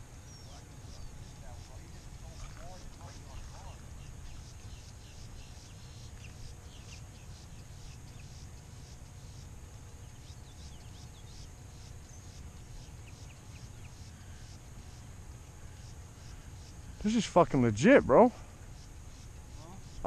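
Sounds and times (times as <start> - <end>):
low steady rumble: 0.0 - 20.0
pulsing insect chorus: 0.0 - 20.0
bird chirps: 0.2 - 17.4.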